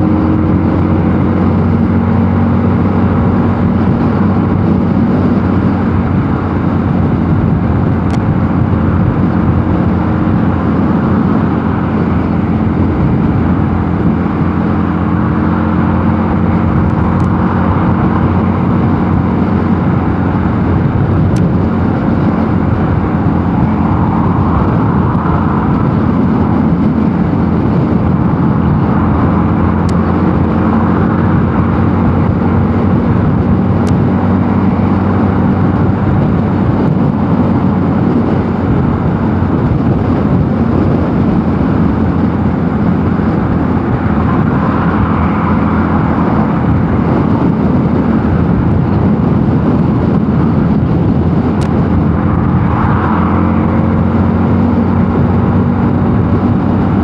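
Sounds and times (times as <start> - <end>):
motorcycle engine cruising: 0.0 - 57.0
wind rush on microphone: 0.0 - 57.0.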